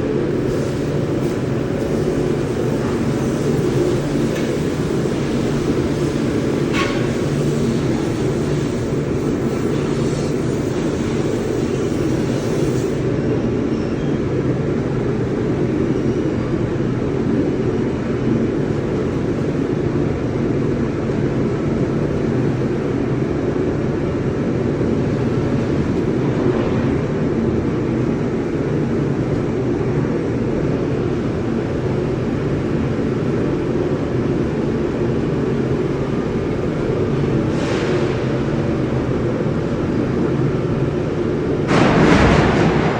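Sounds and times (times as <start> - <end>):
industrial machinery rumble: 0.0 - 42.9
loud low furnace roar: 0.0 - 42.9.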